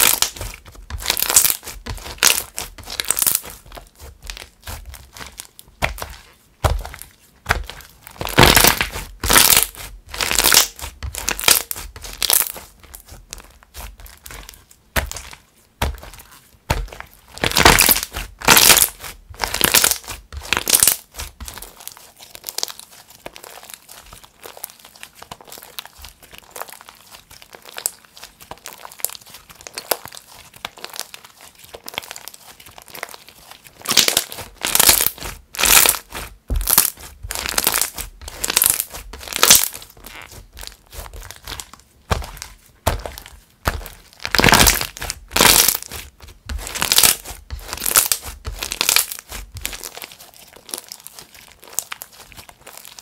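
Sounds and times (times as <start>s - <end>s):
slime squishing: 0.0s - 53.0s.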